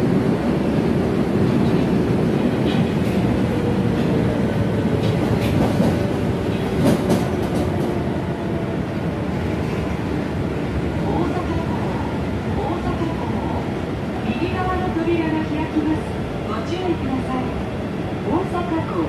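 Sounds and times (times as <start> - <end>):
subway train wheels on rail: 0.0 - 19.0.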